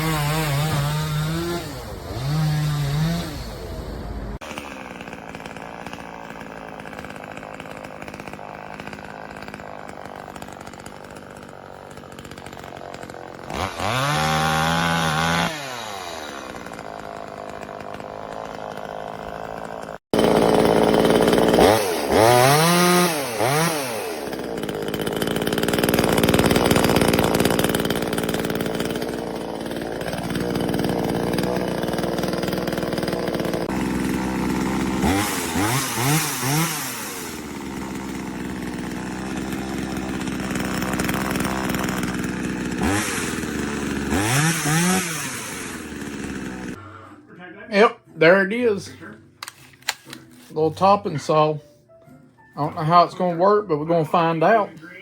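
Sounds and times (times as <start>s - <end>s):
chainsaw engine revving: 0.0s - 46.8s.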